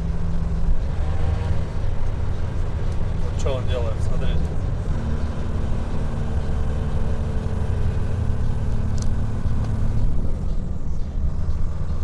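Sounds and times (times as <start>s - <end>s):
truck diesel engine howling: 0.0s - 12.0s.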